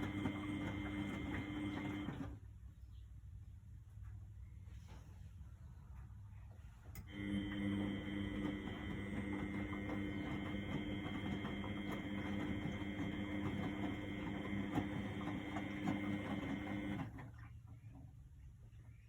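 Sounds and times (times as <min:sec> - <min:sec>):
washing machine motor hum: 0:00.0 - 0:02.6, 0:06.0 - 0:19.0.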